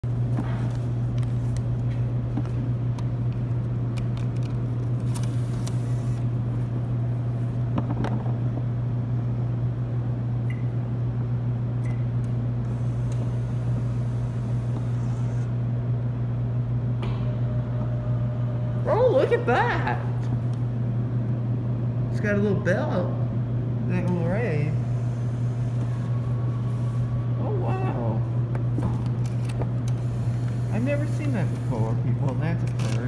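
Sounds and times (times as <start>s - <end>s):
vending machine humming: 0.0s - 33.0s.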